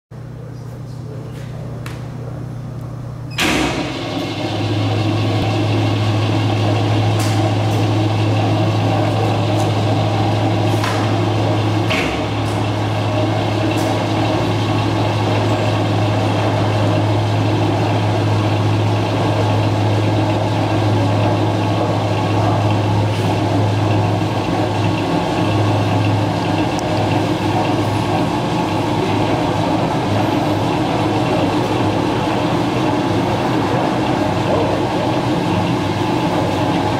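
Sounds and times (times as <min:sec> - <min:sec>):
tilt drive humming with gear whine: 0:00.2 - 0:36.9.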